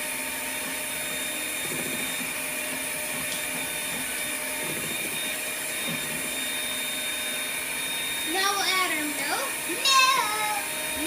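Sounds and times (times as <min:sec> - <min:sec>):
electric mixer running: 0:00.0 - 0:11.0.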